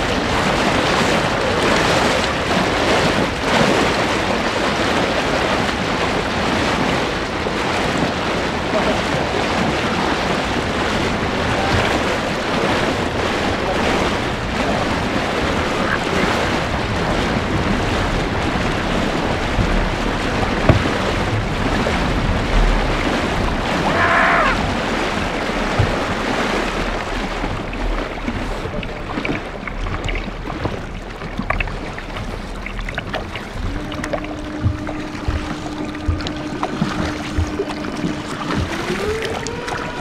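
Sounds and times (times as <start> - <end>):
paddle blades splashing: 0.0 - 40.0
water rushing along hull: 0.0 - 40.0
wind buffeting microphone: 0.0 - 40.0.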